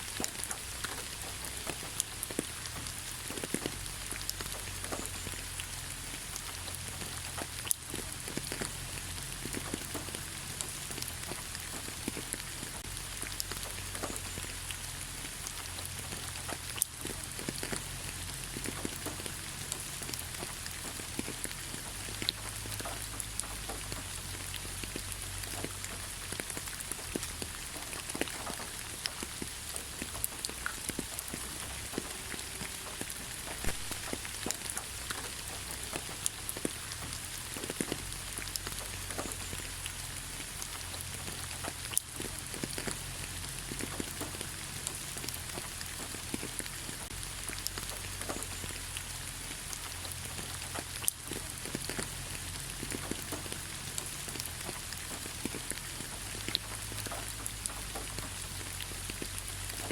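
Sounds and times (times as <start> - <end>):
rain hissing on leaves: 0.0 - 59.9
raindrops ticking: 0.0 - 59.9.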